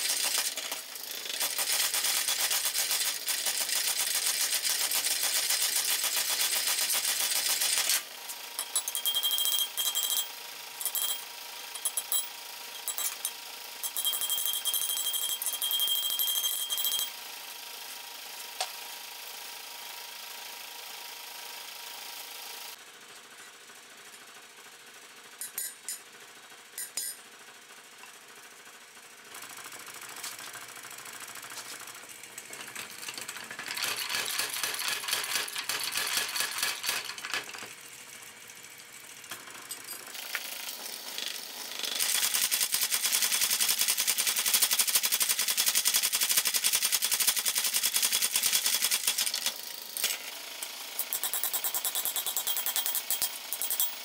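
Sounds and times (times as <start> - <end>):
steady shop hum: 0.0 - 44.0, 47.6 - 54.0.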